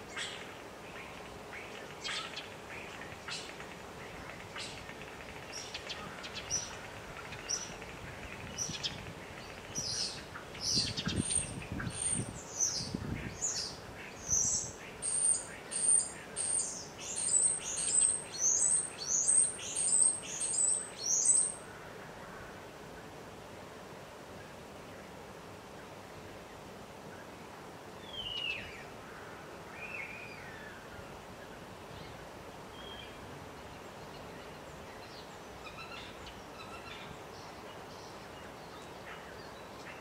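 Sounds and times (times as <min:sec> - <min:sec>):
songbird chirping: 0:00.0 - 0:22.2, 0:24.3 - 0:40.0.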